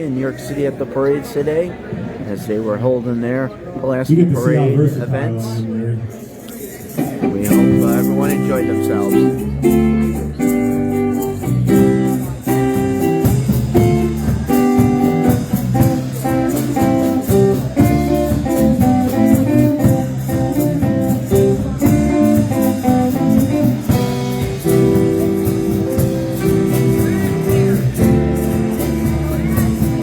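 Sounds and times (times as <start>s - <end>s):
polka band playing: 4.9s - 30.0s.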